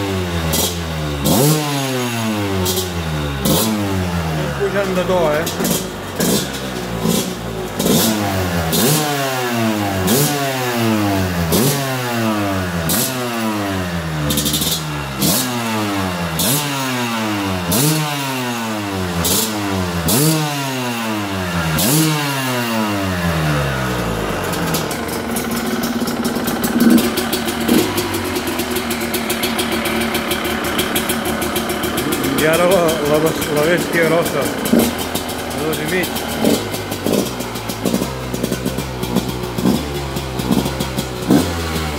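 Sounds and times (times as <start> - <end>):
motorcycle engine idling: 0.0 - 41.9
motorcycle engine revving: 0.0 - 41.9.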